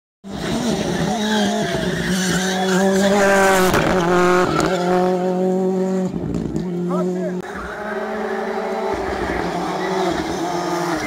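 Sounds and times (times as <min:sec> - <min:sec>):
rally car engine revving past: 0:00.3 - 0:11.0.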